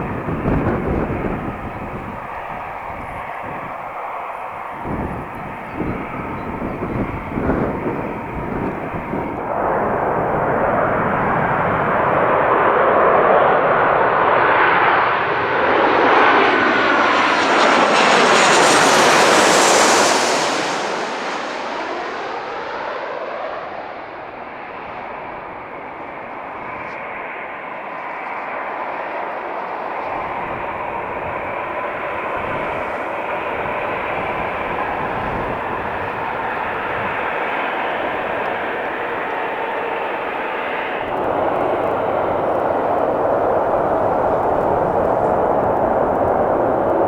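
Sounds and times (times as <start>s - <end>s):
wind buffeting microphone: 0.0s - 22.7s, 24.7s - 47.0s
aircraft engine passing: 0.0s - 47.0s.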